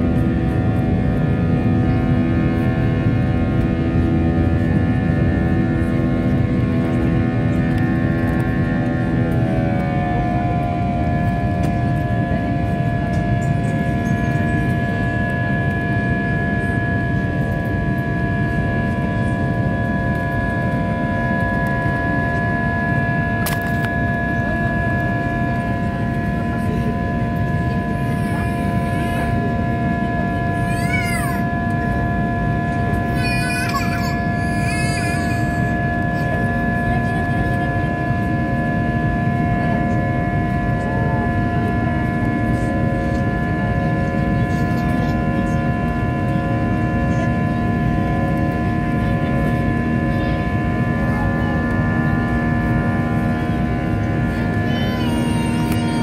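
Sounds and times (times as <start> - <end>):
airplane cabin rumble: 0.0 - 56.0
jet engine whine: 0.0 - 56.0.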